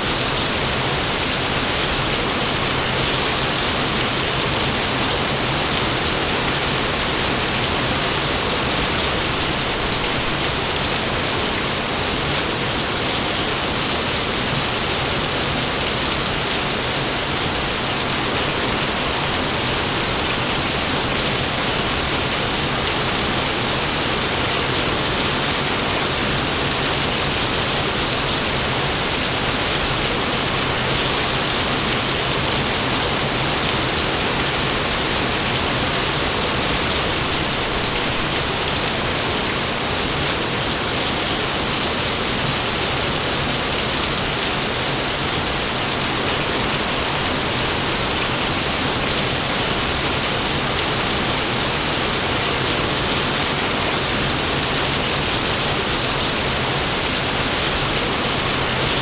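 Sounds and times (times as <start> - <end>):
heavy rain hissing: 0.0 - 59.0.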